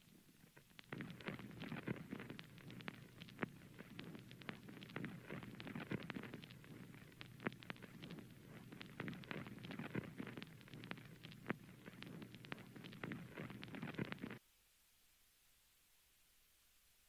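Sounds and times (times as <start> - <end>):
crackling clicks: 0.0 - 14.4.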